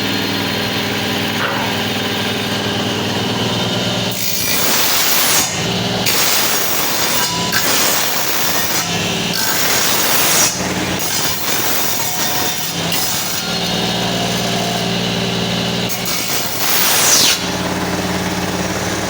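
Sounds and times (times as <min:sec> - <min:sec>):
power tool cutting wood: 0:00.0 - 0:19.0.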